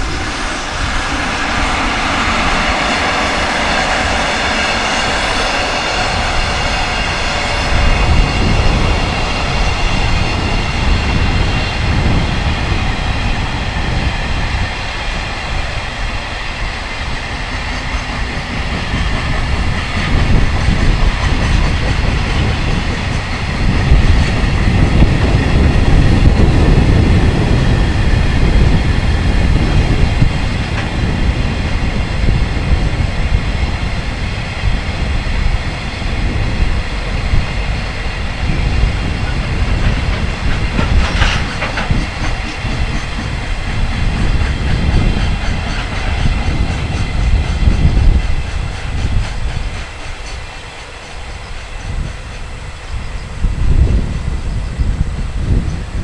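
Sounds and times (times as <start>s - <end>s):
locomotive high whine: 0.0s - 56.0s
train wagons rumbling by: 0.0s - 56.0s
wind buffeting microphone: 0.0s - 56.0s.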